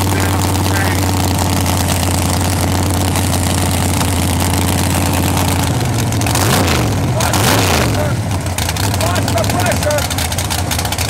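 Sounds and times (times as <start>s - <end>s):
car engine idling choppy: 0.0s - 11.0s.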